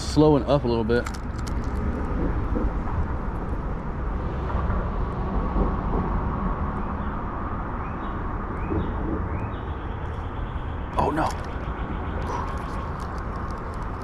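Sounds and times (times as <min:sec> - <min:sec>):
low outdoor background rumble: 0:00.0 - 0:14.0.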